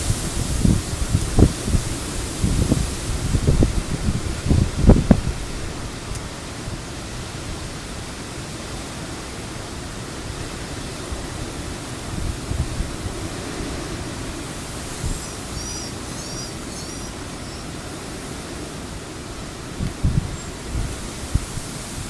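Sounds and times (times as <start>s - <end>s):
wind and rain rushing: 0.0s - 22.0s
wind gusts buffeting microphone: 0.0s - 22.0s.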